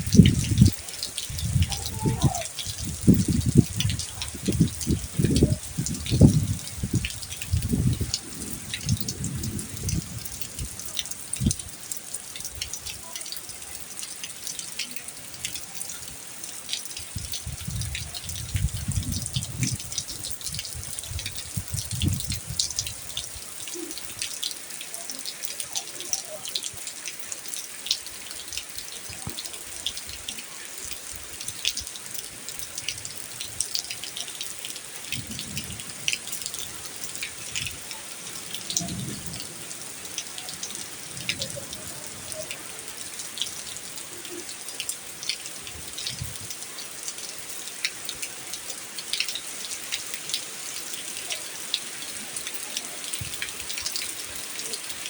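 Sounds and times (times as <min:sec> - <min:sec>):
drops ticking and dripping: 0:00.0 - 0:55.0
steady rain falling: 0:00.0 - 0:55.0.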